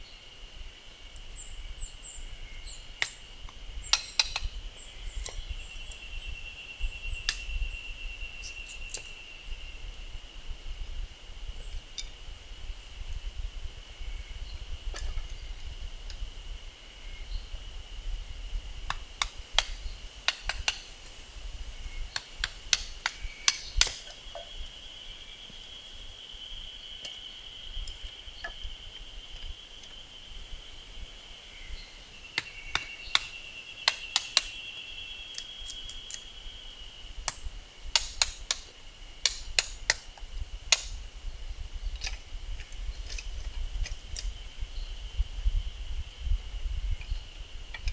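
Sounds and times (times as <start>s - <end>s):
high insect trill: 0.0s - 47.9s.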